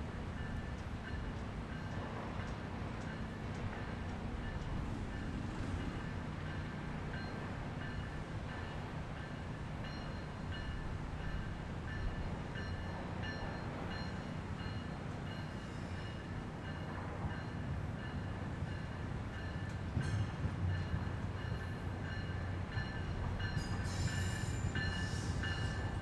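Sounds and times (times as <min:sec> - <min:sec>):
train rumbling: 0:00.0 - 0:26.0
railroad crossing bells dinging: 0:00.1 - 0:26.0.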